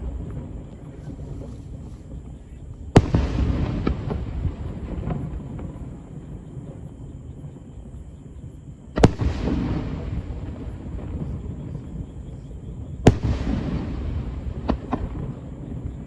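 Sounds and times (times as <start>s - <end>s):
fireworks bursting: 0.0s - 16.0s
fireworks crackles: 0.0s - 16.0s.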